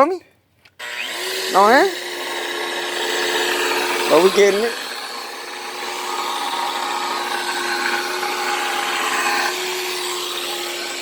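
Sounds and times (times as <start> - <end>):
power tool whining: 0.8 - 11.0.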